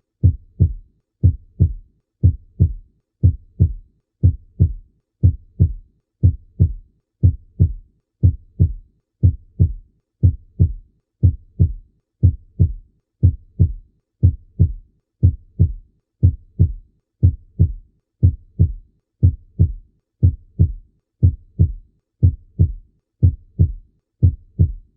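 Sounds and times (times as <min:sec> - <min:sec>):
heartbeat lub-dub: 0:00.2 - 0:24.9.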